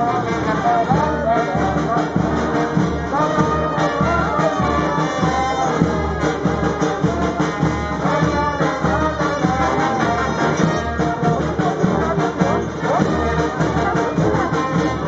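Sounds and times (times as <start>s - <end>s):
street brass band playing: 0.0s - 15.0s.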